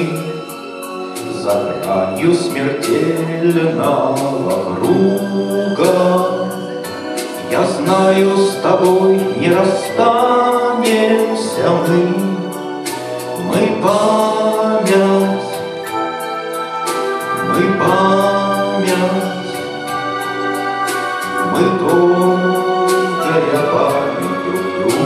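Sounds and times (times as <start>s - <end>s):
grand piano: 0.0s - 25.0s
person singing: 0.0s - 25.0s.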